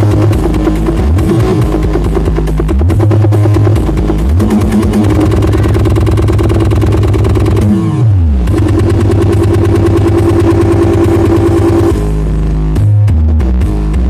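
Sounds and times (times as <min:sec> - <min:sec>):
bass-heavy electronic music: 0:00.0 - 0:14.0.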